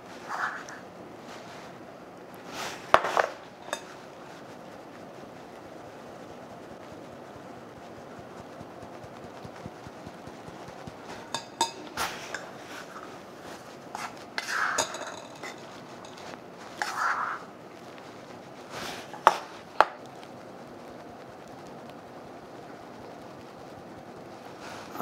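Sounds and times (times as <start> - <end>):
flour scraping: 0.0 - 25.0.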